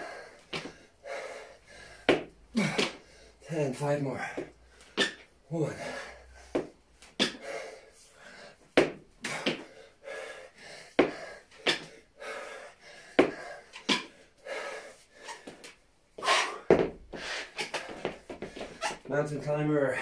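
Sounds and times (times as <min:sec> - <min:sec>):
man breathing hard: 0:00.0 - 0:19.1.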